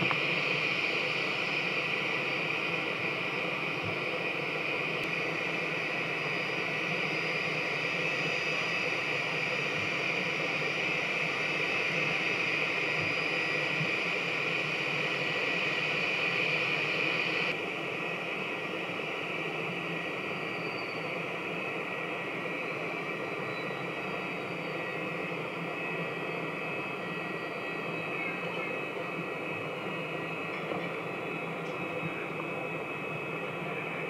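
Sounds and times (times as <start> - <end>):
jet engines idling: 0.0 - 34.0.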